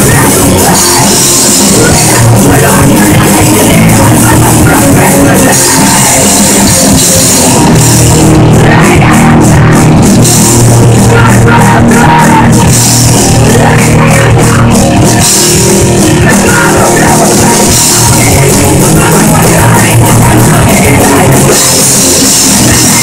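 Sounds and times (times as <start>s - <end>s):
punk rock band playing: 0.0s - 23.0s.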